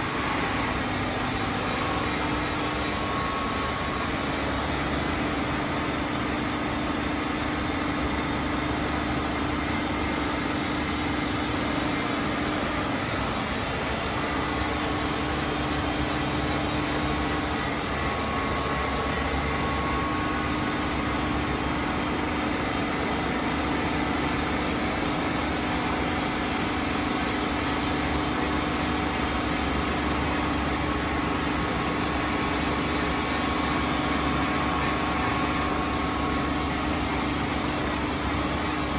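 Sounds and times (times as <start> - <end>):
grinding machine humming: 0.0 - 38.9
high machine whine: 0.0 - 38.9.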